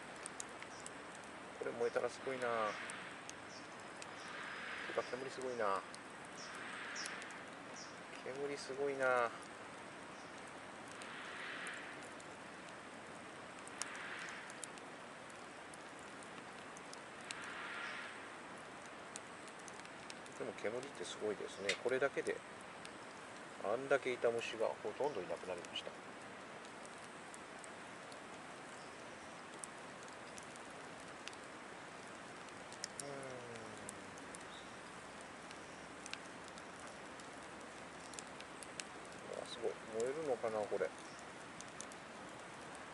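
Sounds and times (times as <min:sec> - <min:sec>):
wood fire hissing and crackling: 0:00.0 - 0:42.9.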